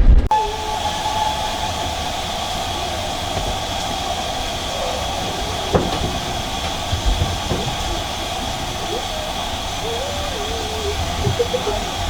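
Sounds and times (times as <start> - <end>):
steam train hiss and rumble: 0.3 - 12.0.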